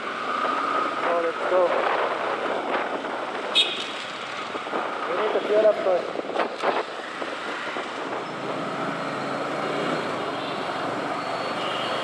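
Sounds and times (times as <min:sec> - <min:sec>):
road traffic noise: 0:00.0 - 0:12.0
wind: 0:00.0 - 0:12.0.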